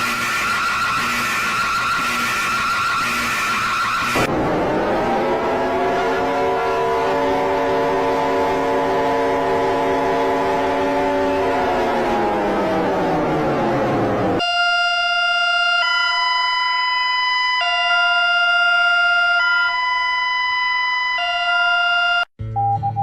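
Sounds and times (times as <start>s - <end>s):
falling alarm wail: 0.0s - 22.3s
two-pitch alarm tone: 0.0s - 22.3s.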